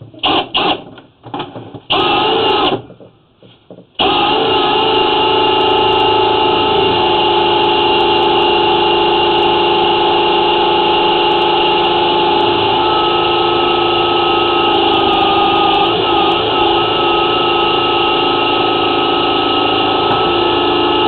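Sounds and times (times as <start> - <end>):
drain cleaning machine motor hum: 4.0 - 21.0.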